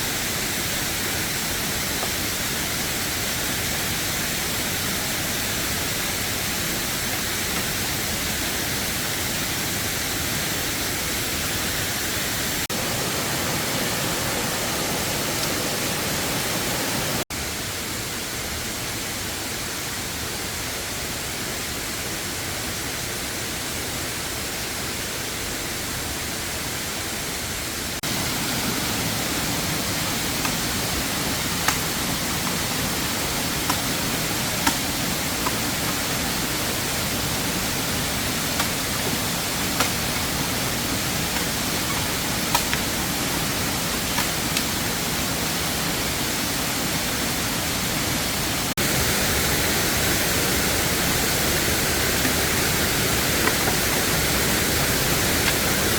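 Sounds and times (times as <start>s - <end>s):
waterfall rushing: 0.0s - 17.7s, 24.9s - 55.9s.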